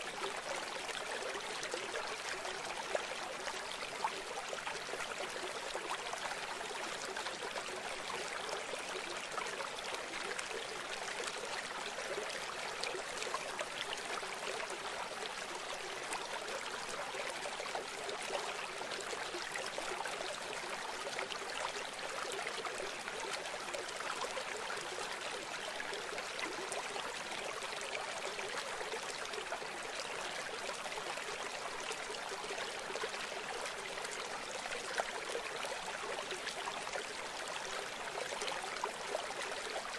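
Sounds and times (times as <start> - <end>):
steady rushing water: 0.0 - 39.9.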